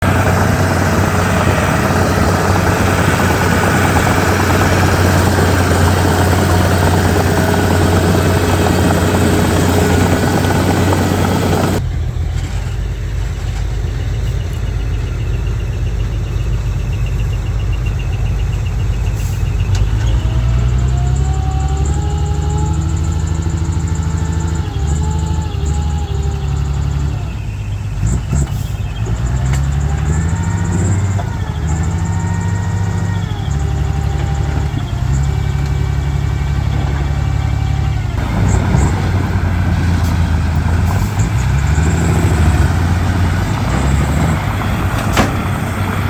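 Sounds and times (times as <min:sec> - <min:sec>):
heavy machinery diesel engine: 0:00.0 - 0:46.0.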